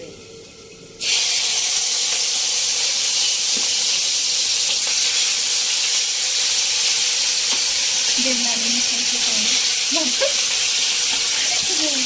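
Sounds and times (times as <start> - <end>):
food sizzling in hot oil: 0.4 - 12.0.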